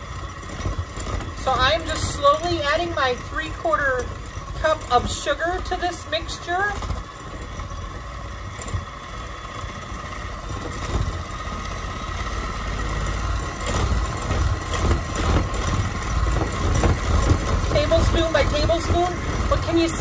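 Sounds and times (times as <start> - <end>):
electric hand mixer whine: 0.0 - 20.0.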